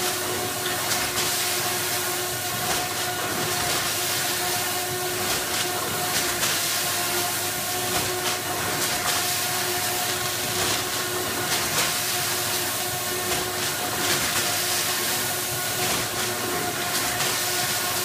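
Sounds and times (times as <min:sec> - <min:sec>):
bagging machine humming: 0:00.0 - 0:18.0.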